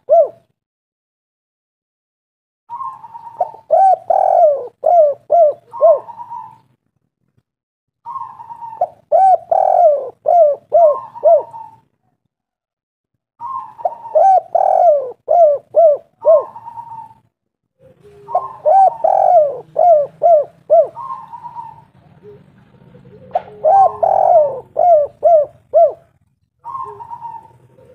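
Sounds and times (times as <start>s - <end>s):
dove cooing: 0.0s - 0.6s, 2.7s - 6.8s, 8.0s - 12.0s, 13.4s - 27.9s.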